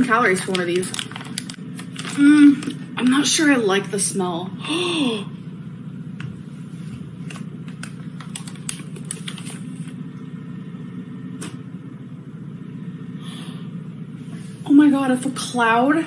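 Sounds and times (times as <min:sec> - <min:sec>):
low mechanical hum with flutter: 0:00.0 - 0:16.0.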